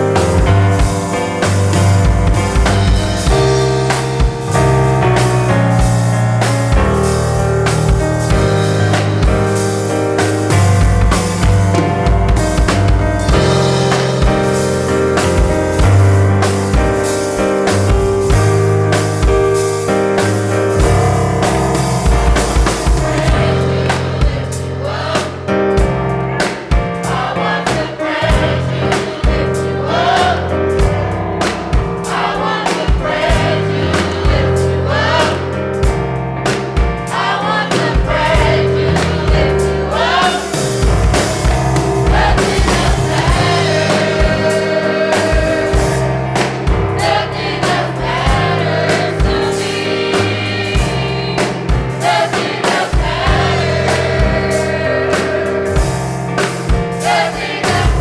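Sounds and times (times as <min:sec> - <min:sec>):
bass: 0:00.0 - 0:58.0
drum kit beat: 0:00.0 - 0:58.0
gospel choir singing: 0:00.0 - 0:58.0
keyboard: 0:00.0 - 0:58.0.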